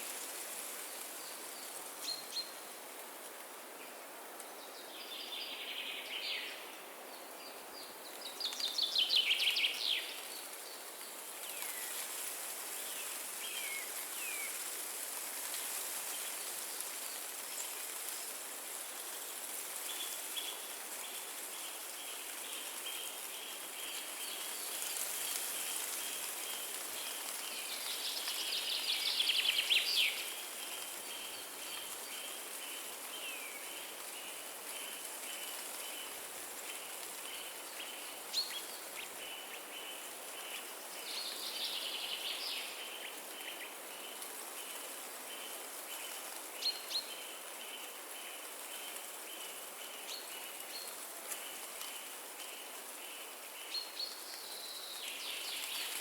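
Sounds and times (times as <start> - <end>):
wind through forest trees: 0.0 - 56.0.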